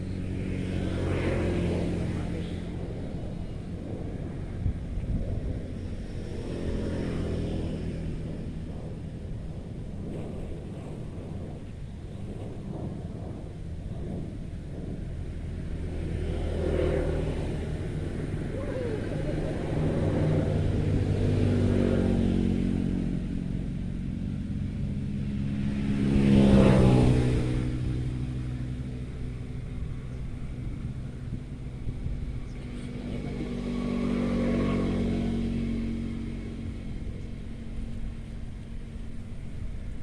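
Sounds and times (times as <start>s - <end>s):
steady low rumble: 0.0s - 40.0s
vehicles driving past: 0.0s - 40.0s.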